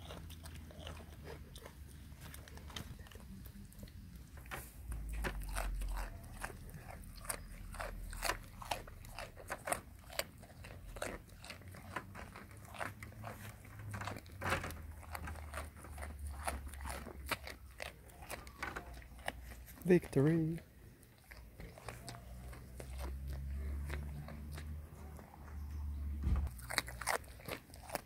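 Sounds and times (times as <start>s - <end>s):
goat crunching carrot: 0.0s - 28.0s.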